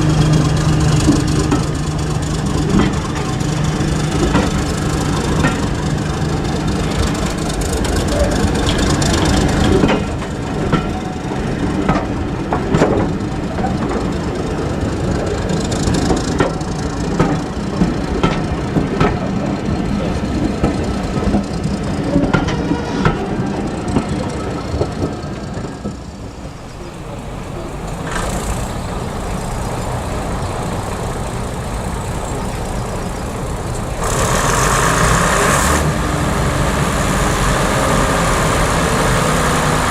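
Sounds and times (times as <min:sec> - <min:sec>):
diesel train engine: 0:00.0 - 0:39.9
wheels clicking on rails: 0:00.0 - 0:39.9.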